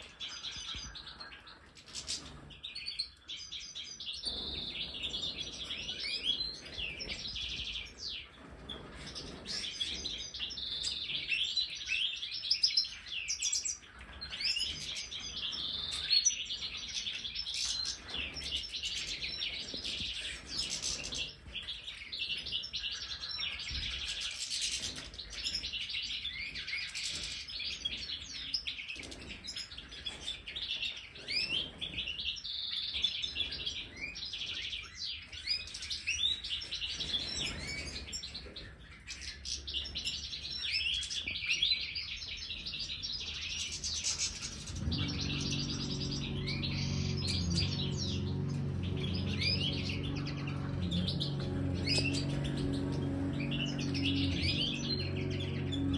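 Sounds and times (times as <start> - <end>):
flock of finches chirping: 0.0 - 55.9.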